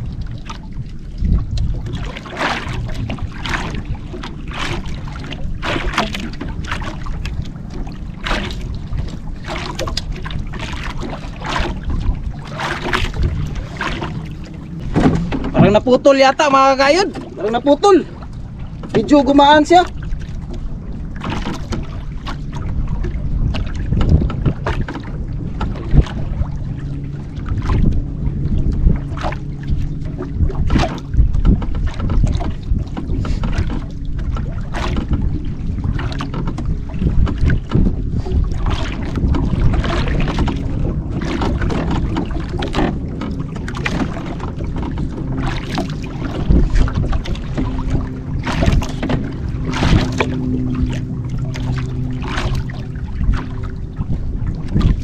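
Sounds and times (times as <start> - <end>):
low steady hum: 0.0 - 55.0
water splashes: 0.0 - 55.0
waves slapping boat hull: 0.0 - 55.0
wind gusting on microphone: 0.0 - 55.0.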